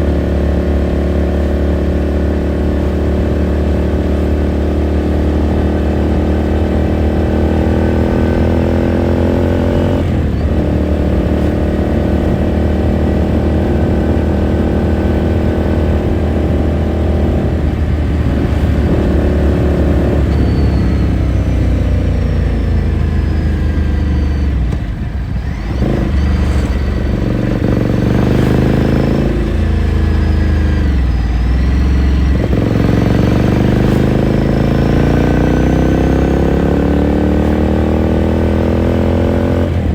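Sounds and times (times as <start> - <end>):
motorcycle engine accelerating: 0.0 - 39.9
gear change: 7.5 - 39.9.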